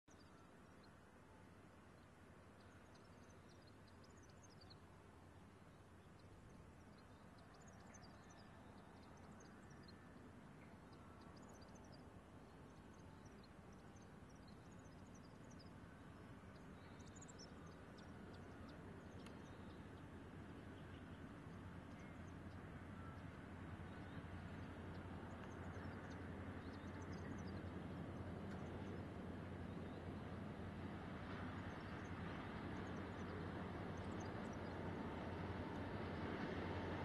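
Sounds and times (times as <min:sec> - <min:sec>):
faint birdsong: 0:00.0 - 0:37.0
distant locomotive rumble: 0:06.5 - 0:37.0.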